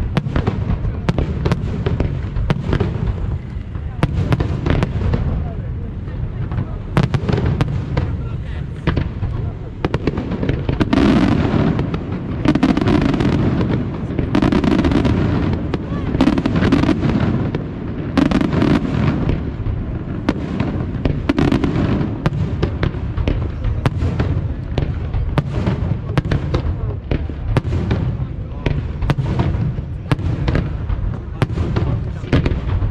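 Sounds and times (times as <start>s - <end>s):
fireworks bursting and crackling: 0.0s - 32.9s
sharp firework bangs: 0.0s - 32.9s.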